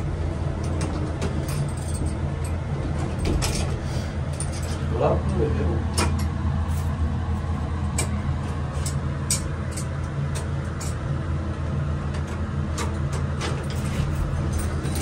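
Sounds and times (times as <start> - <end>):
elevator hum: 0.0 - 15.0.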